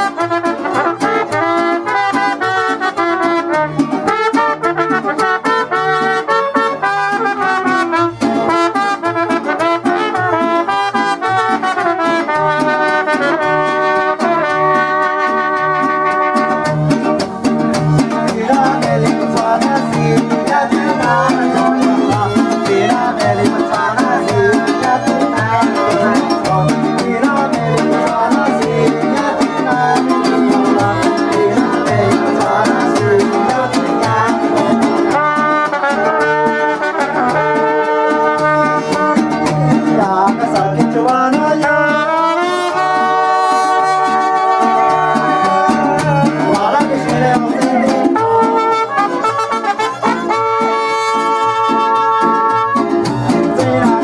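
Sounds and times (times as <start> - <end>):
mariachi band playing: 0.0 - 54.0.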